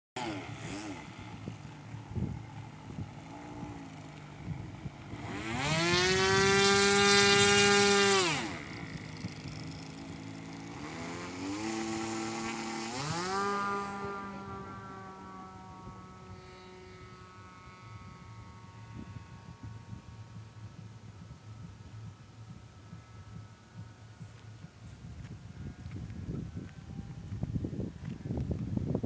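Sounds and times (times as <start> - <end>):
model airplane engine revving: 0.2 - 27.4.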